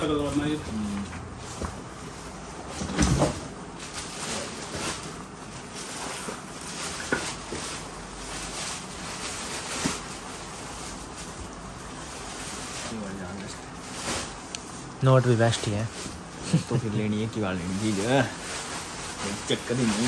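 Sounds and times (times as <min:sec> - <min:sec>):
jacket rustling: 0:03.5 - 0:20.0.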